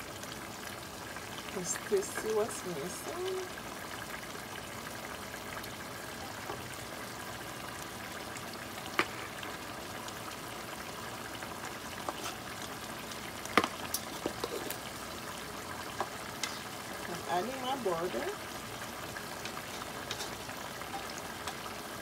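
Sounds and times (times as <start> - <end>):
sauce sizzling in a metal pan: 0.0 - 22.0.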